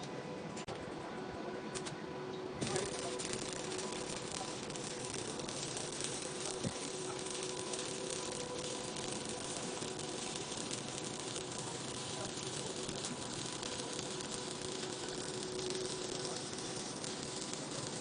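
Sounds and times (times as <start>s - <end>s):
welding arc crackling and sizzling: 2.5s - 18.0s.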